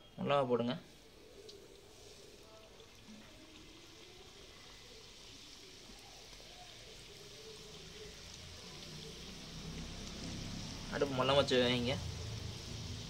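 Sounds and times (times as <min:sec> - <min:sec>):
spring rolls sizzling in hot oil: 0:00.2 - 0:13.0.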